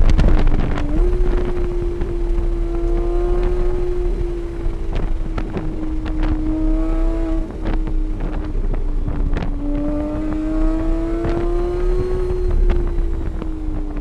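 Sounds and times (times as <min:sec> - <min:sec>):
vehicle engine running at speed: 0:00.0 - 0:14.0
wind noise: 0:00.0 - 0:14.0.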